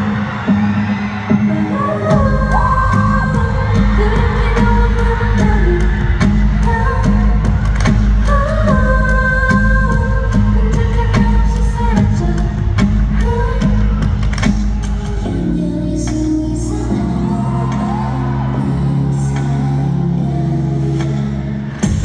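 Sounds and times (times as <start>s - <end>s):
girl group singing pop song: 1.5s - 22.0s.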